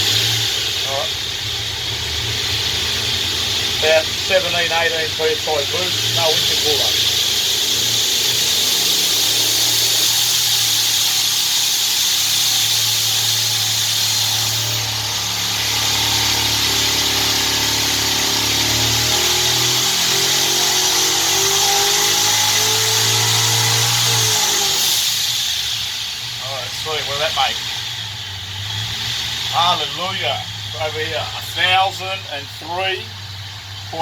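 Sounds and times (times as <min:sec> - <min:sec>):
engine running hard on dyno: 0:00.0 - 0:34.0.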